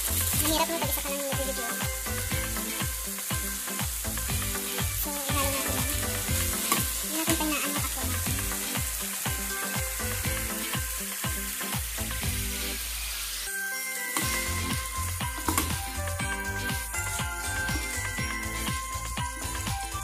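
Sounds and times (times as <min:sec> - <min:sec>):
filling sizzling in frying pan: 0:00.0 - 0:20.0.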